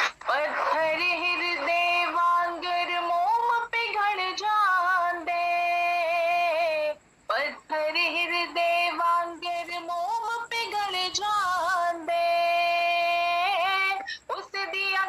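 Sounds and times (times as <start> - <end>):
woman singing a hymn: 0.0 - 15.0.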